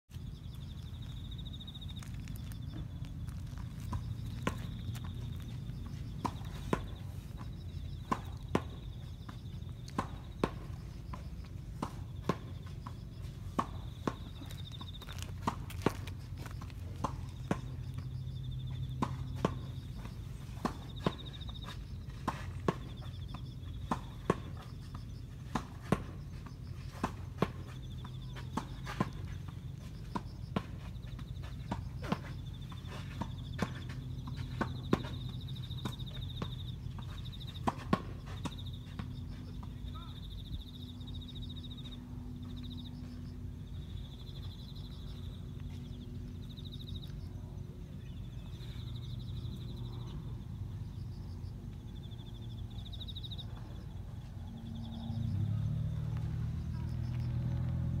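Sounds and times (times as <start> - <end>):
insects trilling: 0.1 - 58.0.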